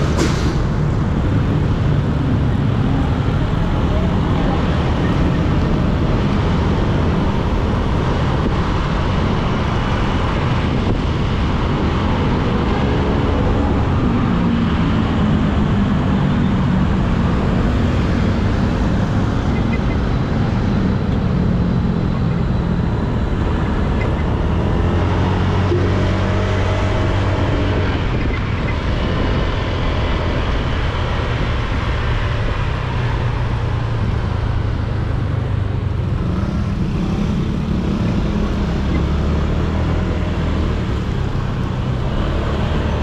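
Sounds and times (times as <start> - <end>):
traffic: 0.0 - 43.0
tyre and wind noise on wet road: 0.0 - 43.0.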